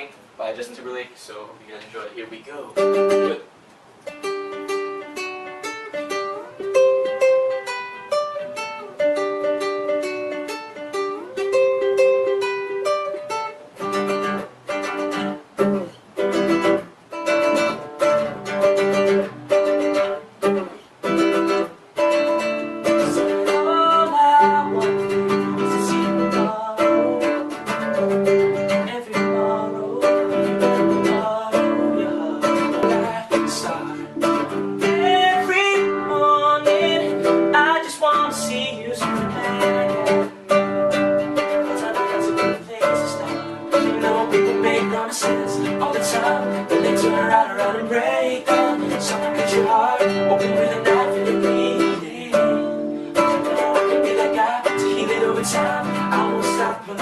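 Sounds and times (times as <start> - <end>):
acoustic plucked string melody: 1.9 - 57.0
strummed guitar chords: 2.6 - 57.0.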